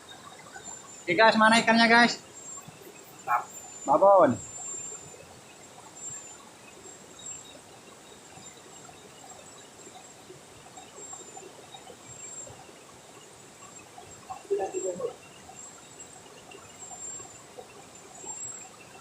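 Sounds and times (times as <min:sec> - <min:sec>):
night insects chirping: 0:00.0 - 0:19.0.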